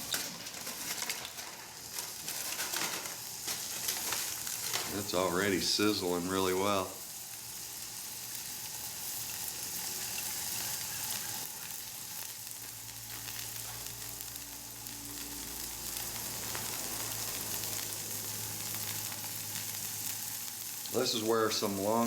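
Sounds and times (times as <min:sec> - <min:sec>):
hamburger patty sizzling in a pan: 0:00.0 - 0:22.0.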